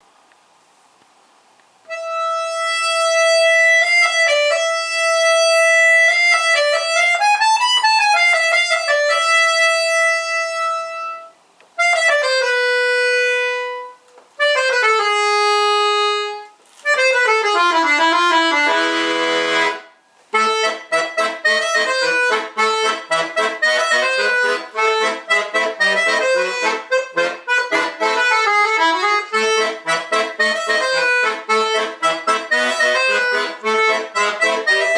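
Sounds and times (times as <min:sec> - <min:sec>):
button accordion playing: 0:01.9 - 0:34.9.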